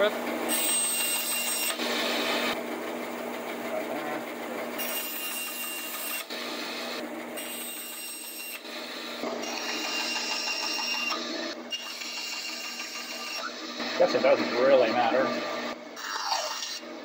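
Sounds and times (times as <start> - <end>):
bandsaw cutting wood: 0.0 - 15.4.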